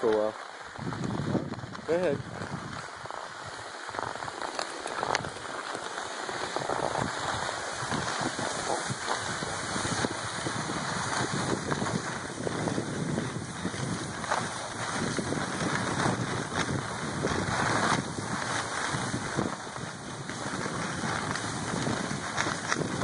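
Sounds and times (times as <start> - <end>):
skis scraping over snow: 0.0 - 23.0
wind on microphone: 0.0 - 23.0.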